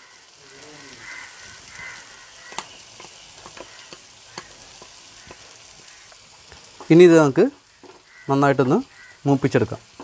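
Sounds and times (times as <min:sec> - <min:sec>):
shallots sizzling in a pot: 0:00.0 - 0:10.0.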